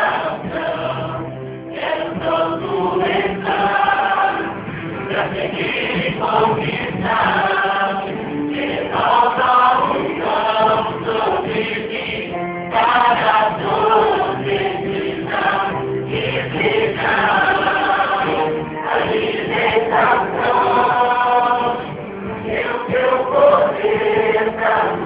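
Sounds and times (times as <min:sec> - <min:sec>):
gospel choir singing: 0:00.0 - 0:25.0.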